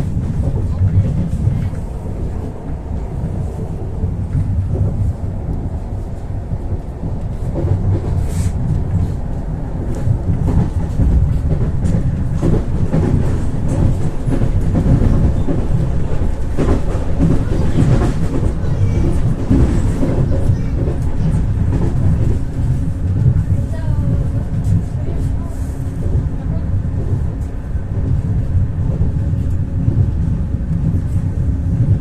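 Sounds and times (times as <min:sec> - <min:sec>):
electric train rumbling on track: 0:00.0 - 0:32.0.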